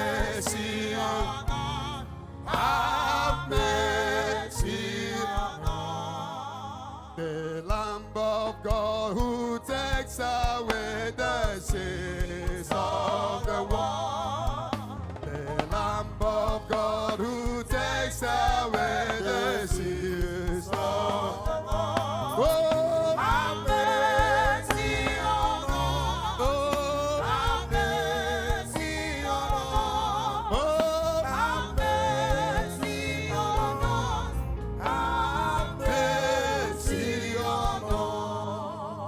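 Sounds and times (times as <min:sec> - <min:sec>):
gospel singing: 0:00.0 - 0:39.0
instrumental accompaniment with bass: 0:00.0 - 0:39.0.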